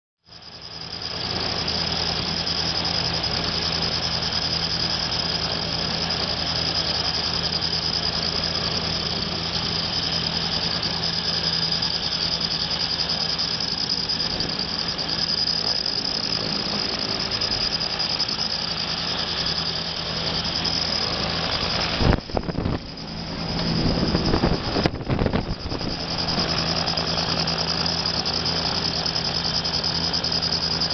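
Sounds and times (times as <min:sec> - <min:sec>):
motor whining and humming: 0:00.3 - 0:30.9.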